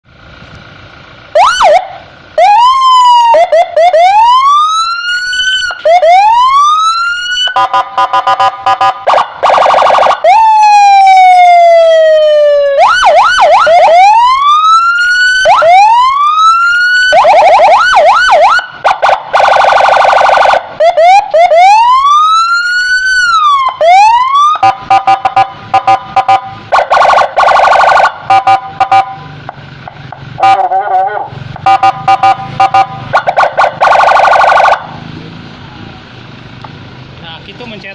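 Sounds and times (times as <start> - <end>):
electronic police siren: 1.3 - 29.4, 30.4 - 35.0.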